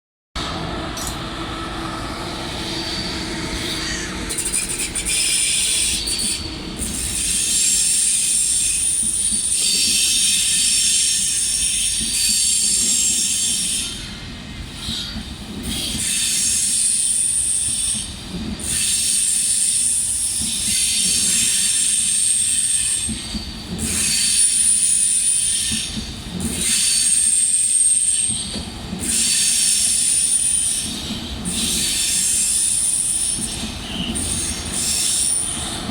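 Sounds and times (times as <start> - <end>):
train wheels squealing on rails: 0.4 - 35.9.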